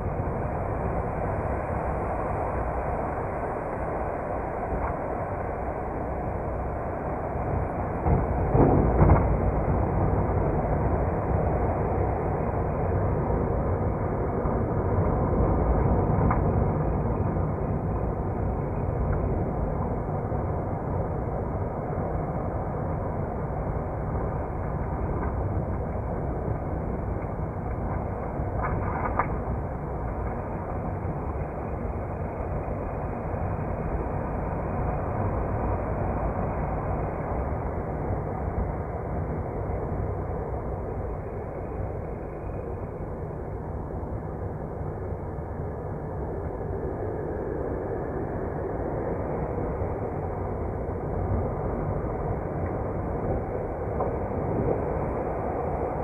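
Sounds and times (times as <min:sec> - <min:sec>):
vehicle rumble: 0:00.0 - 0:56.0.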